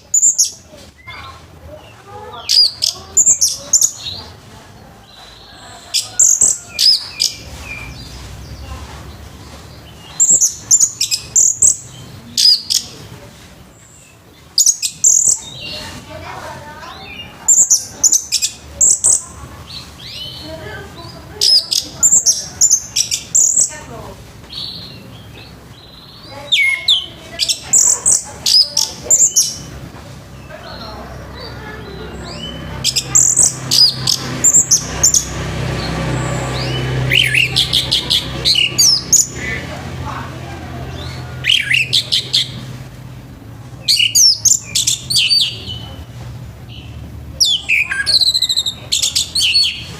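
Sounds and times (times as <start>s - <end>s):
thrush singing: 0.0s - 49.9s.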